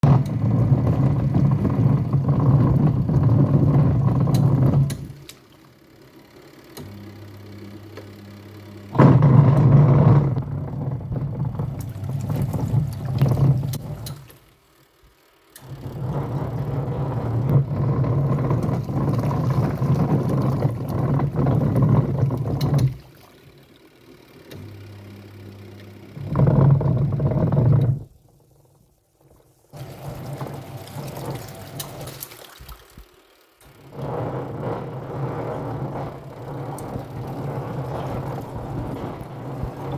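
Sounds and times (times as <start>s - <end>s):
low steady hum: 0.0s - 39.9s
washing machine churning and rumbling: 0.0s - 39.9s.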